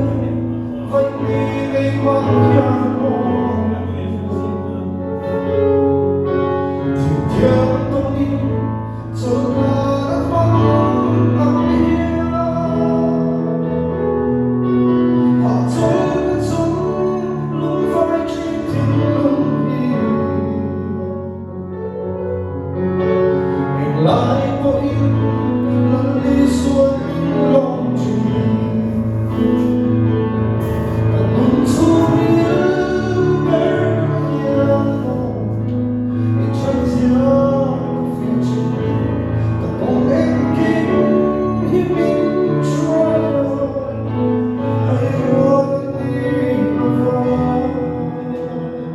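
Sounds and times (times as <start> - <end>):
person singing: 0.0 - 21.7, 22.8 - 48.9
bass notes: 0.0 - 48.9.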